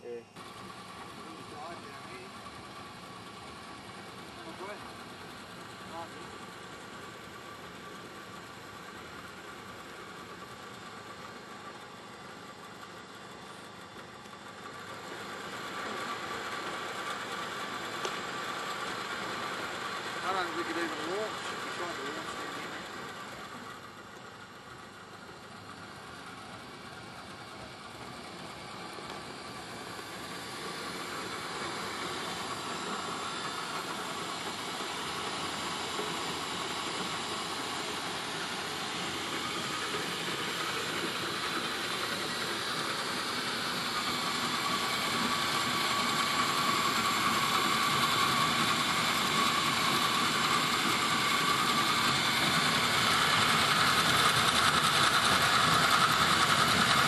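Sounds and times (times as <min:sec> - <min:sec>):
engine-driven winch running: 0:00.4 - 0:57.0.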